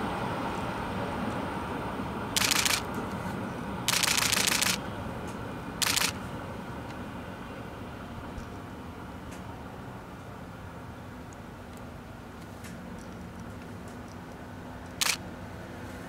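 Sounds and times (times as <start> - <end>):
electric locomotives rumbling: 0.0 - 15.4.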